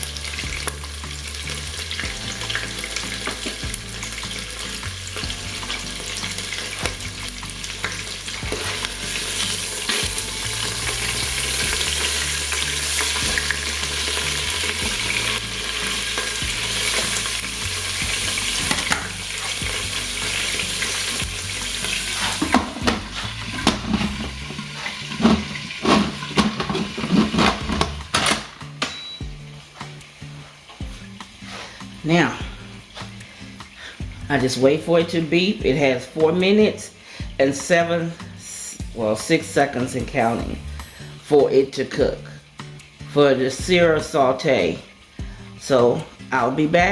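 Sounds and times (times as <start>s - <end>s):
steak sizzling in hot oil: 0.0s - 46.9s.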